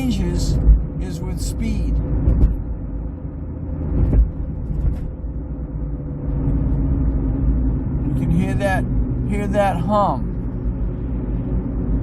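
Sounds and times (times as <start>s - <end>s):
car road rumble: 0.0s - 12.0s
hum from car front: 0.0s - 12.0s.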